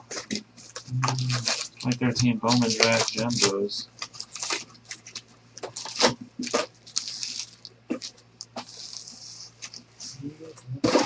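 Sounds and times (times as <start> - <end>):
foil packs crinkling: 0.0 - 9.9.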